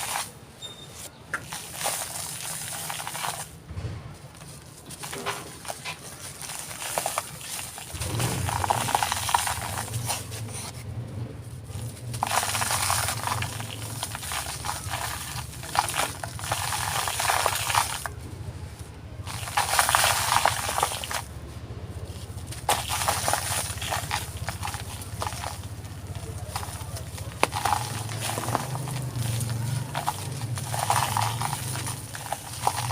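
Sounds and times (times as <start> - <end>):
dry texture crackling by hand: 0.0 - 32.9.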